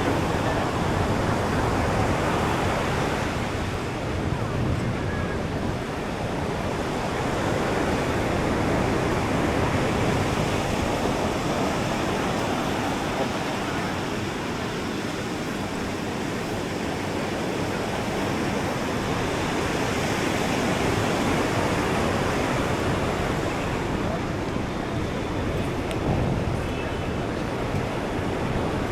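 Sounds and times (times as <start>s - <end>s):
ocean surf on beach: 0.0s - 28.9s.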